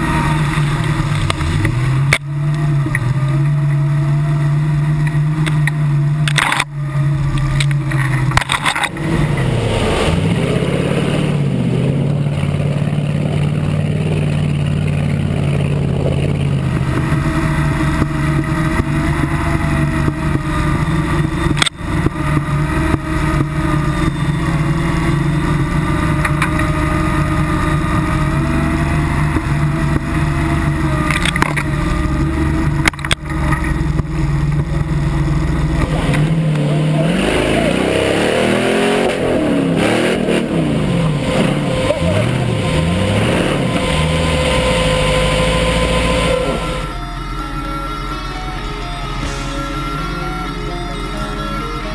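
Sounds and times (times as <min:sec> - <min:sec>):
off-road buggy engine droning and revving: 0:00.0 - 0:51.9.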